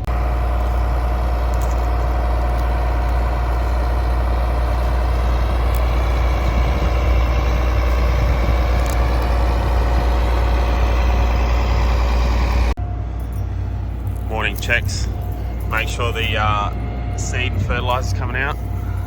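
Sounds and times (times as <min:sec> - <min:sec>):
diesel tractor engine rumbling: 0:00.0 - 0:19.0.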